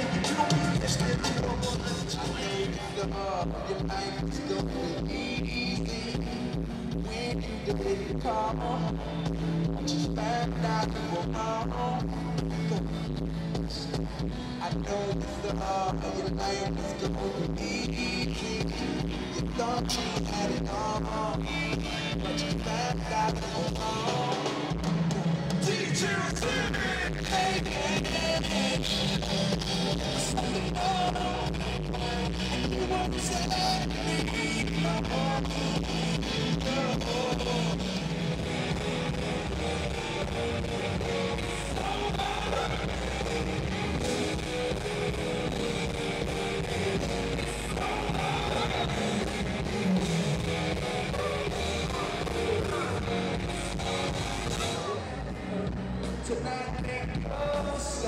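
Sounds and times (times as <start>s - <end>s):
live band playing: 0.0s - 58.0s
person singing: 0.0s - 58.0s.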